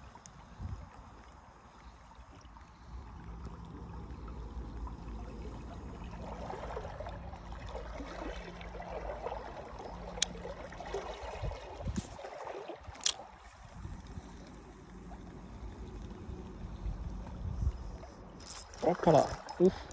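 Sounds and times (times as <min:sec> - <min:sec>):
river water gurgling: 0:00.0 - 0:19.9
fishing reel humming: 0:02.7 - 0:12.1, 0:12.9 - 0:19.9.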